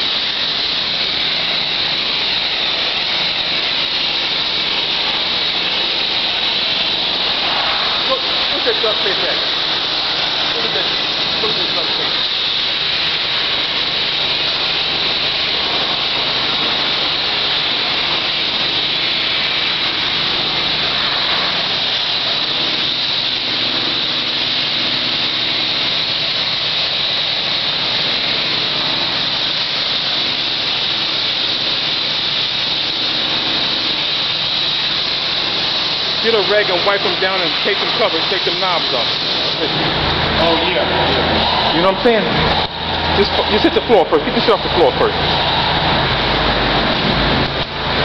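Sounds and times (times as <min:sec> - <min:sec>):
machine hum: 0:00.0 - 0:48.0
pressure washer spray hissing: 0:00.0 - 0:48.0.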